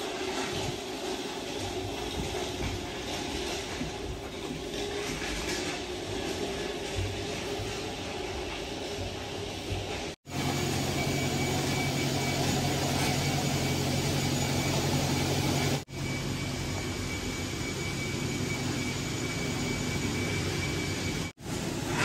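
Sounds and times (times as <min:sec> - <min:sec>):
machine humming: 0:00.0 - 0:21.8.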